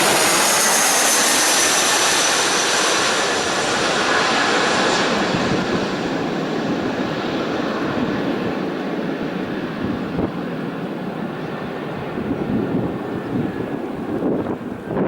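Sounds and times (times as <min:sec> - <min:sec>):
jet aircraft roar: 0:00.0 - 0:15.0.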